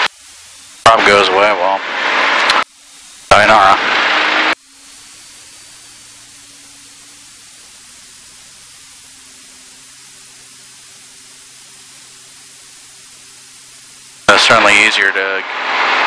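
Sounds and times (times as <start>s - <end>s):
intercom hiss: 0.0s - 16.0s.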